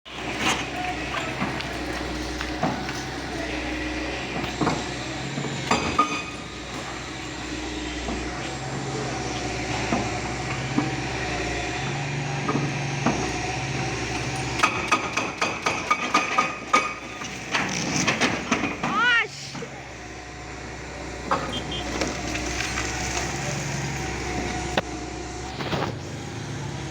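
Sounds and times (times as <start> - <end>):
heavy machine engine running: 0.1 - 26.9.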